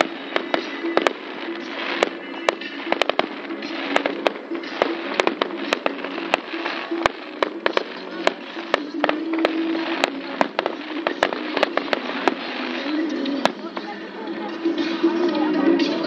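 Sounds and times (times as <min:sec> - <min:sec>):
fireworks bangs: 0:00.0 - 0:14.0
crackling hiss: 0:00.0 - 0:16.0.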